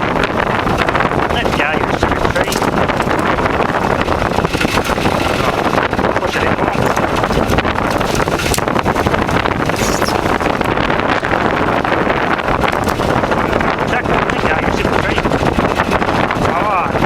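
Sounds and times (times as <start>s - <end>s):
tractor engine running: 0.0s - 17.0s
wind buffeting microphone: 0.0s - 17.0s.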